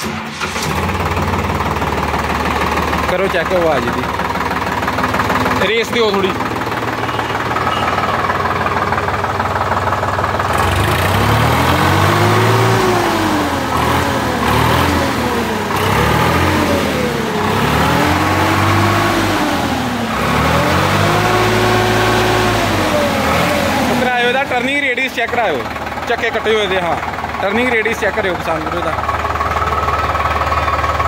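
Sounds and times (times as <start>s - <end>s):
tractor diesel engine revving: 0.0s - 31.0s.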